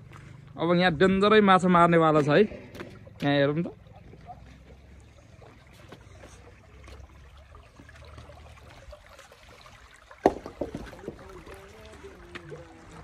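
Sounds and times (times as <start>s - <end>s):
stream trickling over stones: 0.0s - 13.0s.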